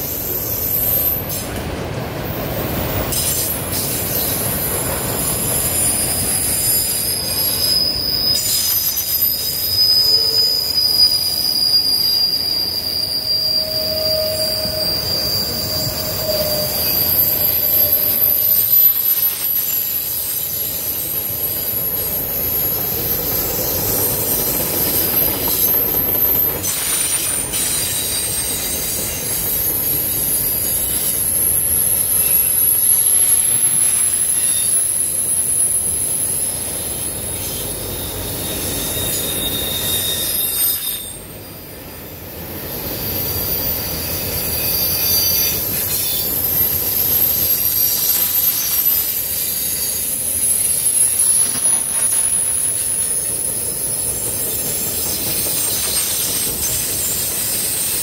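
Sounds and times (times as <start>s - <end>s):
steel wheels squealing: 0.0s - 58.0s
train wheels rolling on rails: 0.0s - 58.0s.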